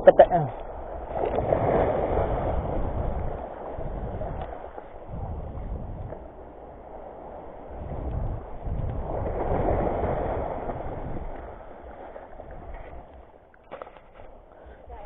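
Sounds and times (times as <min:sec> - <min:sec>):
waves splashing over rocks: 0:00.0 - 0:14.5
wind rumbling on microphone: 0:00.0 - 0:15.0.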